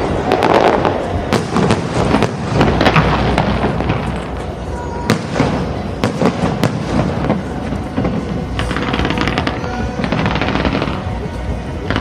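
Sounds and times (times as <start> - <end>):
fireworks crackling: 0.0 - 12.0
fireworks sharp bangs: 0.0 - 12.0.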